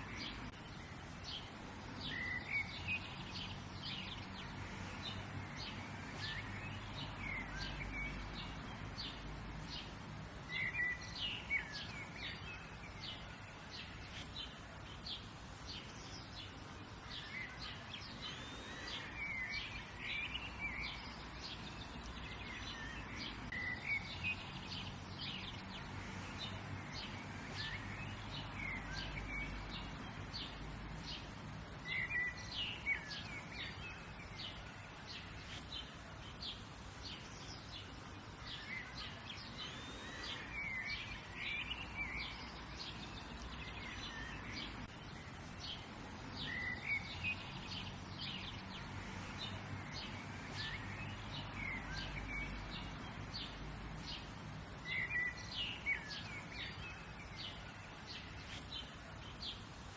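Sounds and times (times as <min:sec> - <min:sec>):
birds chirping: 0:00.0 - 0:59.9
low outdoor background: 0:00.0 - 0:59.9.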